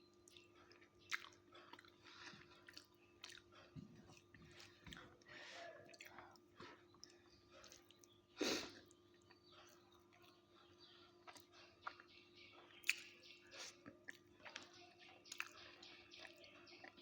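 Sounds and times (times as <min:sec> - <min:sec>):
chewing and mouth smacks: 0:00.2 - 0:10.4, 0:11.2 - 0:17.0.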